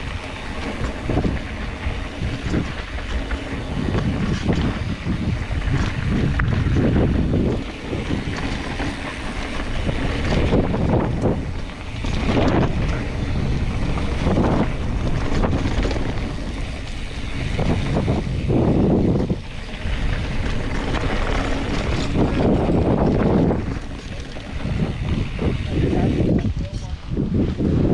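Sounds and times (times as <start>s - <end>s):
bike rattling: 0.0s - 27.9s
bike tyres rumbling on gravel: 0.0s - 27.9s
wind buffeting microphone: 0.0s - 27.9s.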